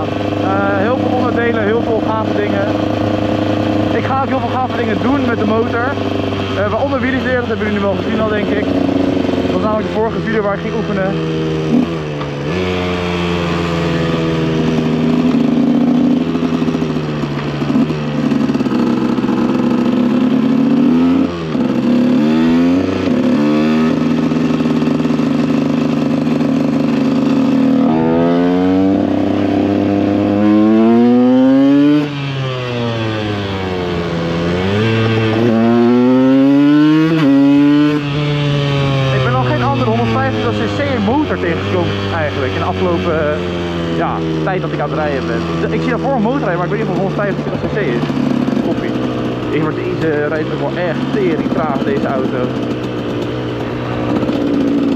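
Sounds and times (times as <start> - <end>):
two-stroke motorcycle engine revving: 0.0 - 54.9.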